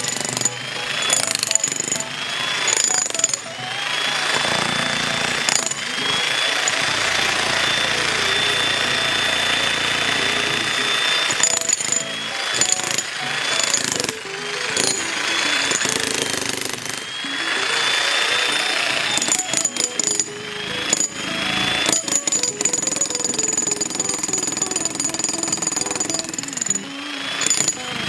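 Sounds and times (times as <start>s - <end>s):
jackhammer chiselling concrete: 0.0s - 28.0s
jackhammer motor whining: 0.0s - 28.0s.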